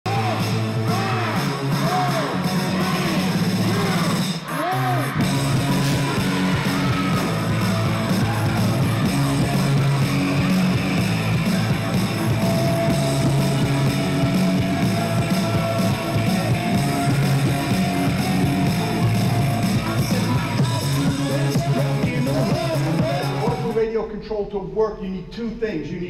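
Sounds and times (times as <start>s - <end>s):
rock music with steady beat: 0.0s - 23.8s.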